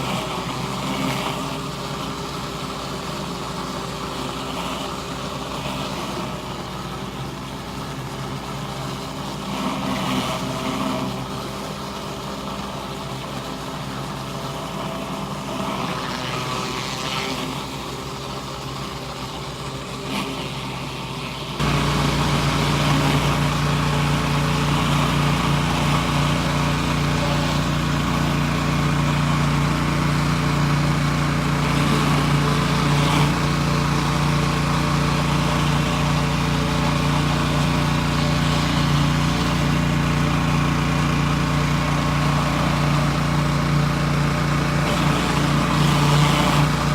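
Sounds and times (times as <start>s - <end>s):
pressure washer engine running: 0.0s - 46.9s.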